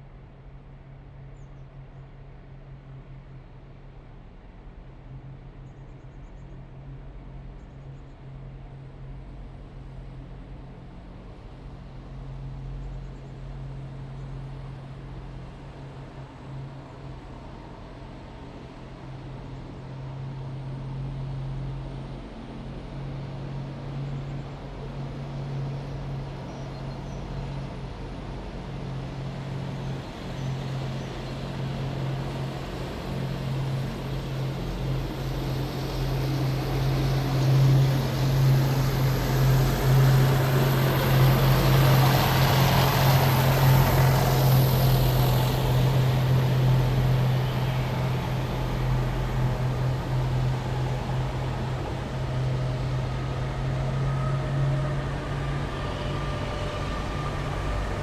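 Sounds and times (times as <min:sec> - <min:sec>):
heavy vehicle engines droning: 0:11.4 - 0:58.0.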